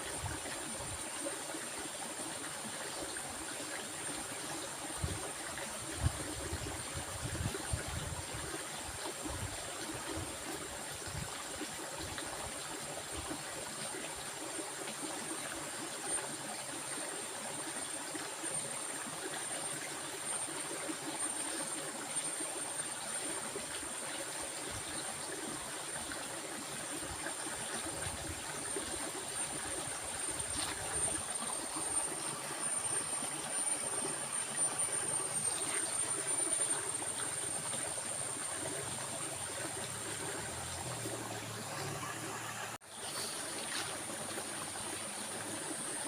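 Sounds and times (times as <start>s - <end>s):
stream water rushing and gurgling: 0.0s - 46.0s.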